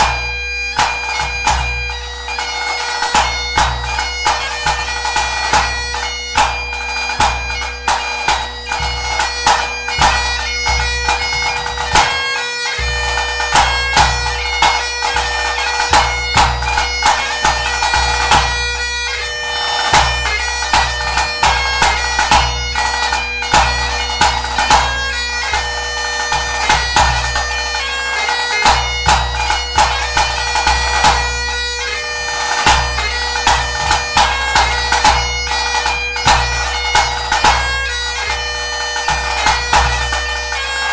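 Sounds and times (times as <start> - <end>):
bagpipe playing a tune: 0.0 - 40.9.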